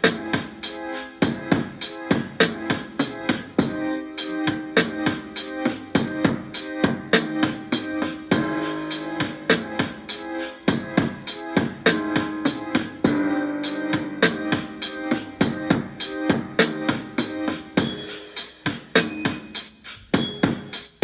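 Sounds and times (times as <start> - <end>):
electric piano chords: 0.0 - 18.2
drum beat: 1.2 - 3.8, 6.0 - 21.0.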